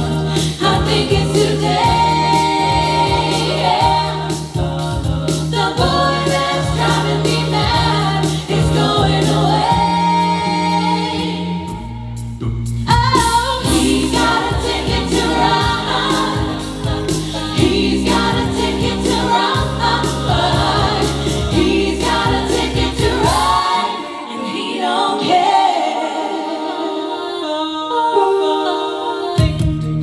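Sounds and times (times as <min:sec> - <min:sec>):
singers in close harmony: 0:00.0 - 0:12.0, 0:13.0 - 0:29.7
bass and drums backing: 0:00.0 - 0:23.7, 0:29.4 - 0:30.0.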